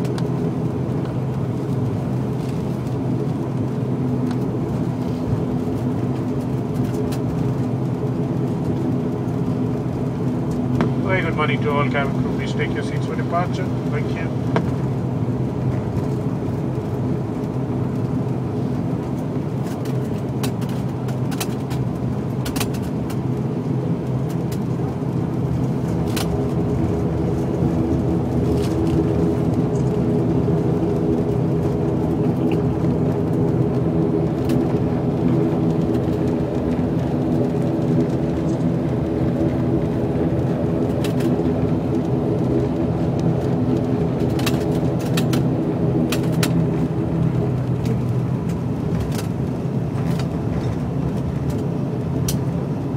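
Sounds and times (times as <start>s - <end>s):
turboprop engines droning in cabin: 0.0s - 52.9s.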